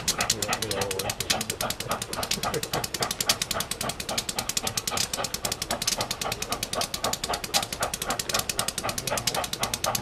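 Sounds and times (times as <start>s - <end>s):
steam locomotive chuffing: 0.0s - 10.0s.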